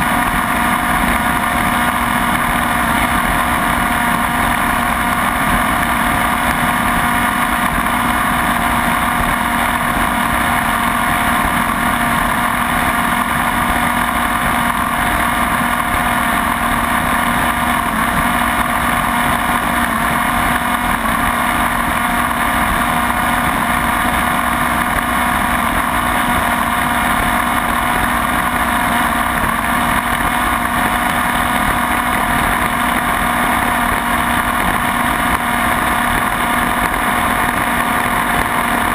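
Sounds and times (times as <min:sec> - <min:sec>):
model engine running flat out: 0:00.0 - 0:38.9.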